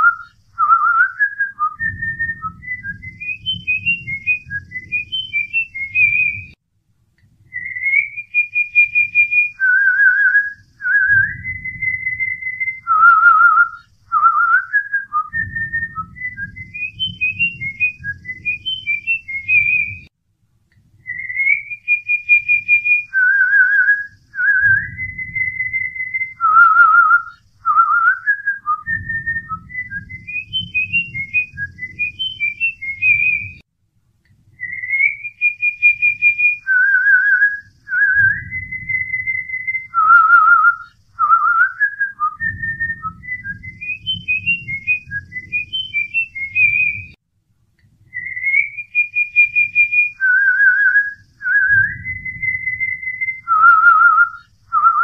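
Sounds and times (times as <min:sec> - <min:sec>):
whistled tune: 0:00.0 - 0:06.6, 0:07.5 - 0:20.1, 0:21.0 - 0:33.6, 0:34.6 - 0:47.2, 0:48.1 - 0:55.0.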